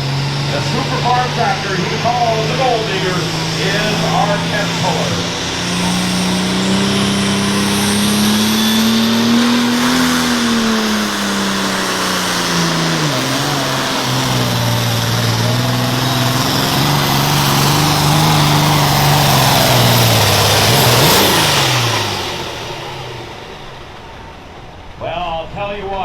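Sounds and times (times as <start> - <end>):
diesel tractor engine under load: 0.0 - 26.0.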